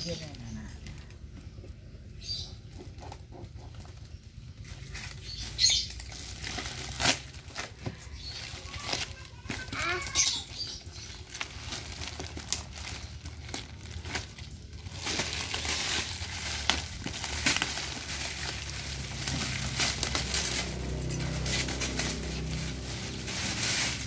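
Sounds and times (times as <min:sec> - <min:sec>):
plastic packaging crinkling: 0:03.6 - 0:24.0.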